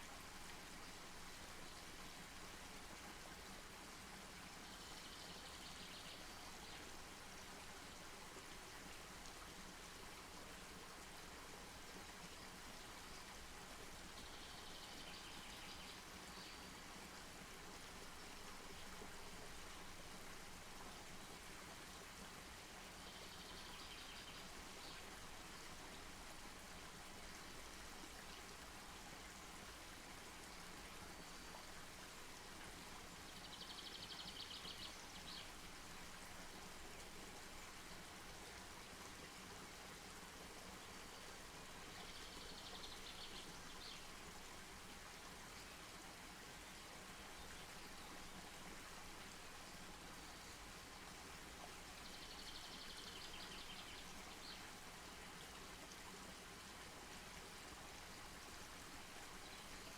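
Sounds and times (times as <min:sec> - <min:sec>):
faint outdoor hiss: 0:00.0 - 0:59.9.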